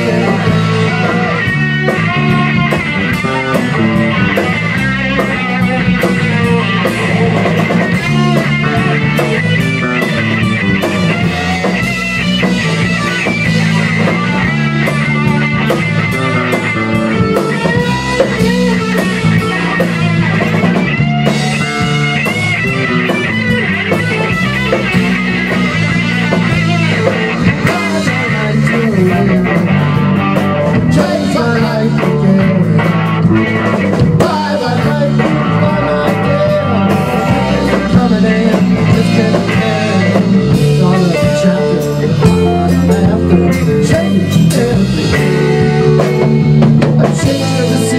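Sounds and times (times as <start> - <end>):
bass guitar: 0.0 - 47.9
drum kit: 0.0 - 47.9
electric guitar: 0.0 - 47.9.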